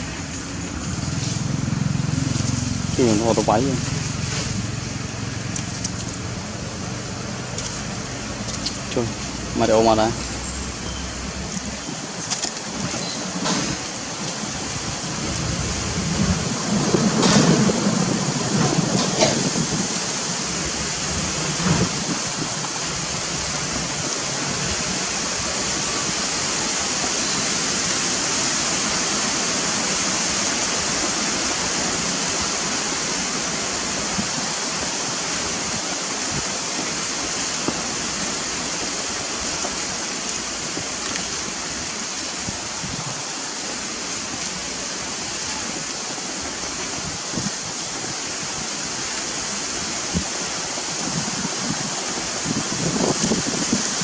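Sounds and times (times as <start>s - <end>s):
steady outdoor hiss: 0.0s - 54.0s.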